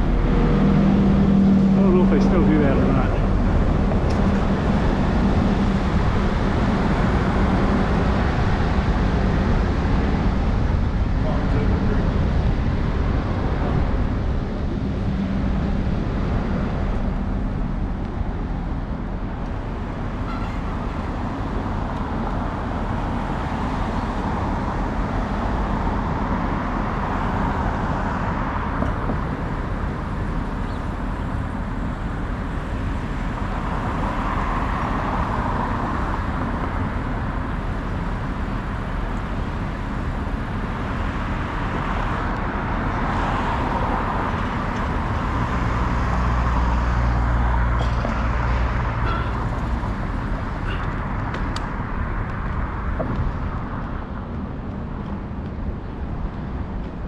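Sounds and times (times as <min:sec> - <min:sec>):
car traffic going by: 0:00.0 - 0:57.0
wind and road noise: 0:00.0 - 0:57.0.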